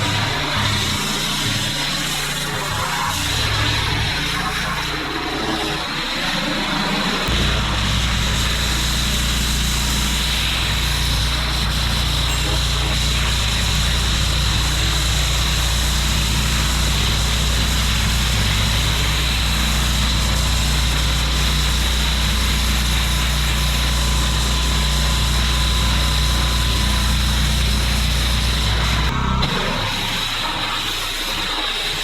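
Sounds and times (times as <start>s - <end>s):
high-pressure water jet hissing: 0.0s - 32.0s
pressure washer engine: 0.0s - 32.0s.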